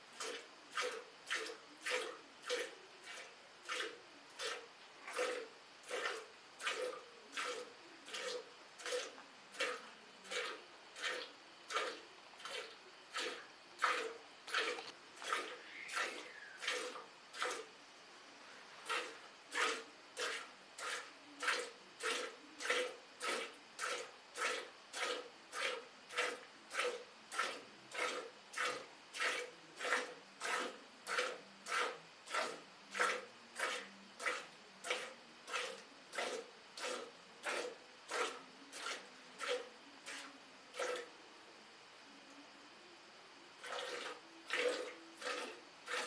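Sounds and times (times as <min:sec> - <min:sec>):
milk squirting into metal bucket: 0:00.1 - 0:41.2, 0:43.6 - 0:46.0.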